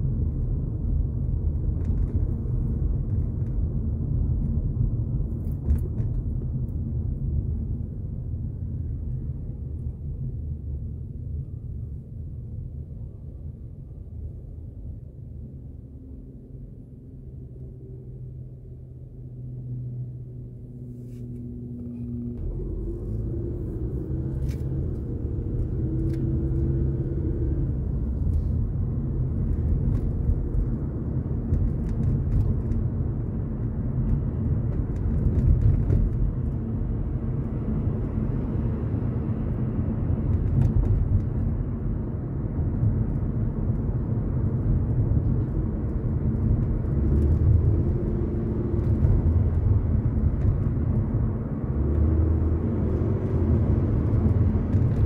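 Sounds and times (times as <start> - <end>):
tyre road noise: 0.0 - 11.8, 14.2 - 55.0
car engine rumble: 0.0 - 55.0.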